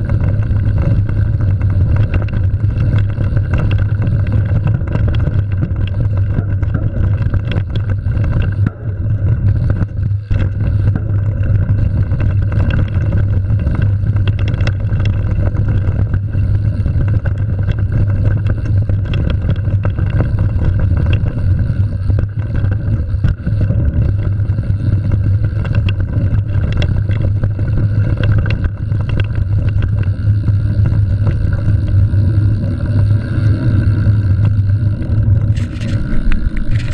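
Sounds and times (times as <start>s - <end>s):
bike rattling over bumps: 0.0s - 36.9s
bike tyres rumbling on dirt trail: 0.0s - 36.9s.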